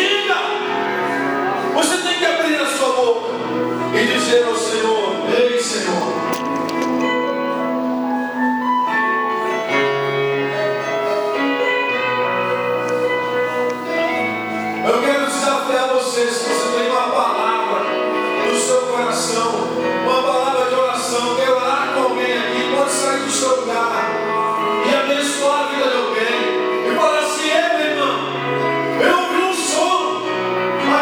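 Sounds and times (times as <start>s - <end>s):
keyboard chords: 0.0s - 31.0s.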